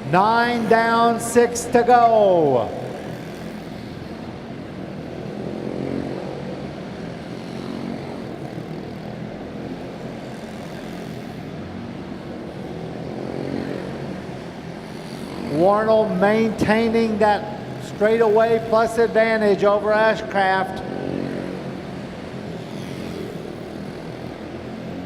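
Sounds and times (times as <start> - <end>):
race car engines buzzing: 0.0 - 25.0.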